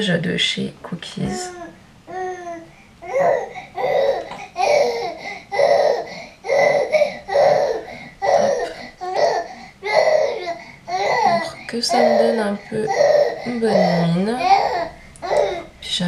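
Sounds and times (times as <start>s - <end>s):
baby babbling and laughing: 1.5s - 12.2s, 12.9s - 15.7s.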